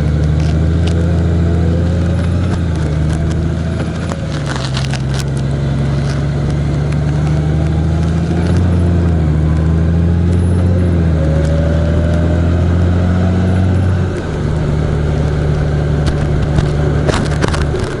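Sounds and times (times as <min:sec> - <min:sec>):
road noise: 0:00.0 - 0:18.0
vehicle engine running: 0:00.0 - 0:18.0.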